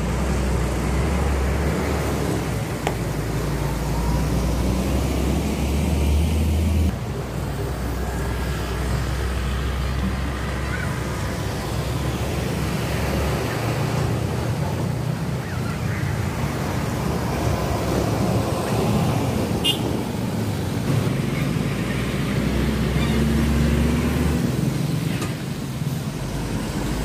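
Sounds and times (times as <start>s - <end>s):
heavy trucks passing: 0.0s - 27.0s.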